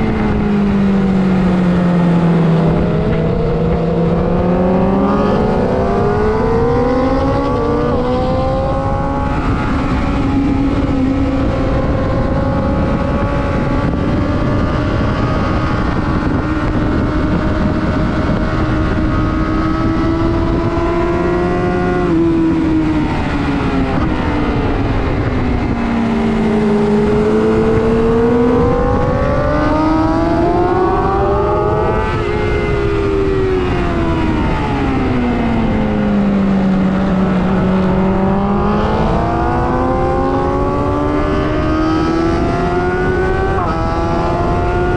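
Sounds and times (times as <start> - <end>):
motorcycle engine at high revs: 0.0 - 44.9
wind noise: 0.0 - 44.9.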